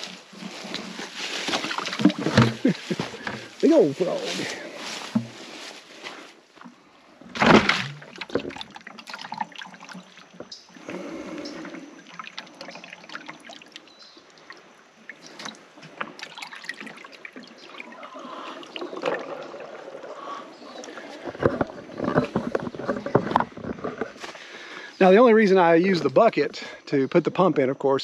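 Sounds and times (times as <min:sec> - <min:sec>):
water splashing and sloshing: 0:00.0 - 0:26.4.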